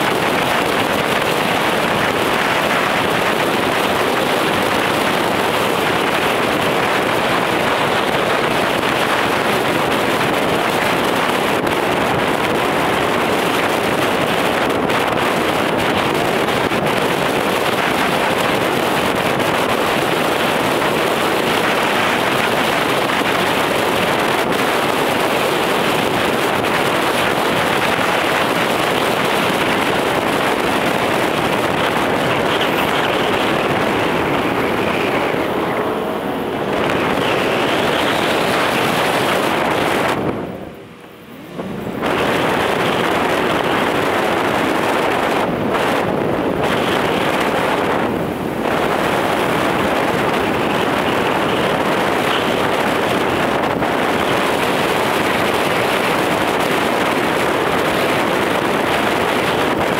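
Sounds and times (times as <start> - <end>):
road and wind noise inside vehicle: 0.0 - 59.9.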